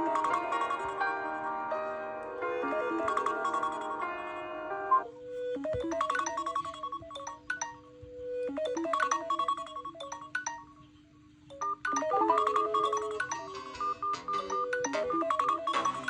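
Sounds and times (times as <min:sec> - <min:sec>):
smartphone ringtone melody: 0:00.0 - 0:01.3, 0:02.6 - 0:04.1, 0:04.9 - 0:10.9, 0:11.5 - 0:16.0.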